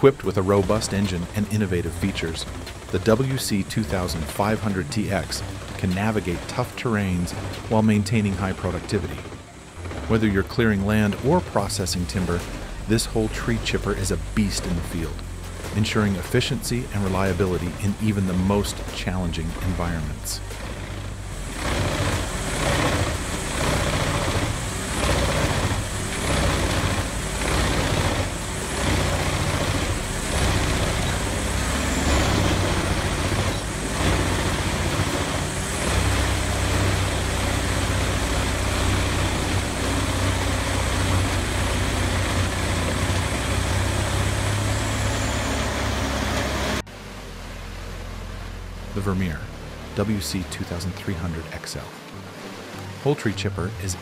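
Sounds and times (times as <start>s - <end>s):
tree chipper running under load: 0.0s - 54.0s.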